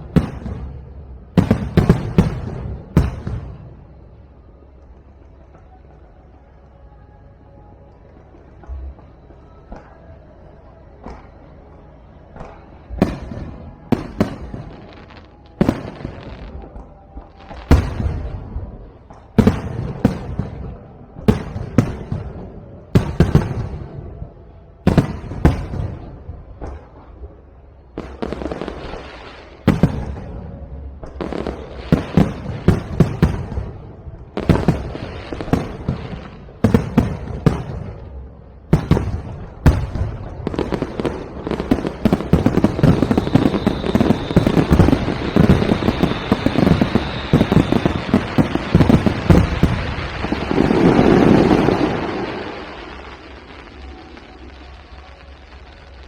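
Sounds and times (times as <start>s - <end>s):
fireworks bursting with bangs: 0.0s - 4.4s, 8.4s - 56.0s
fireworks crackle: 0.0s - 6.7s, 7.9s - 56.0s.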